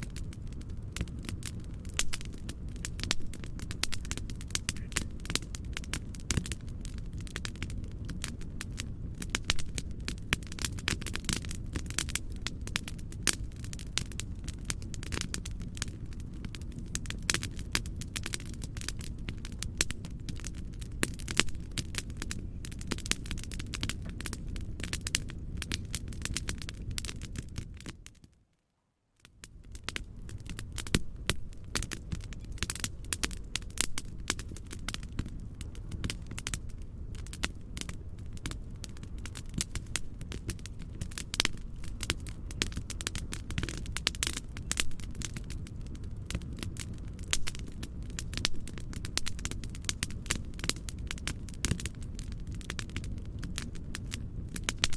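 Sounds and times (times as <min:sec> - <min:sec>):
fireplace crackling: 0:00.0 - 0:54.9.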